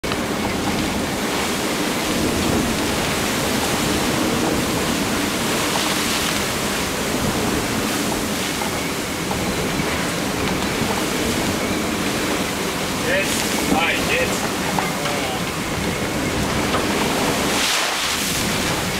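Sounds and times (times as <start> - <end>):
yacht bow cutting through waves: 0.0 - 18.9
wind rushing: 0.2 - 18.9.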